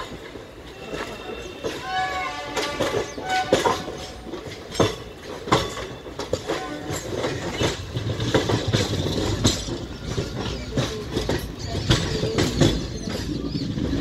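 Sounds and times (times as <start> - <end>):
train low rumble: 0.0 - 14.0
train wheels clacking over rail joints: 0.0 - 14.0.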